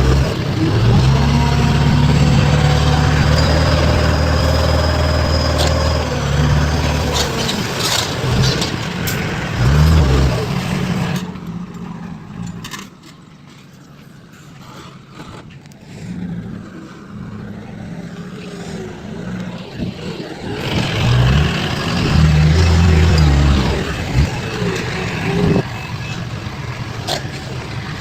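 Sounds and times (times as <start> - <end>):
diesel engine running: 0.0 - 12.7, 15.9 - 28.0.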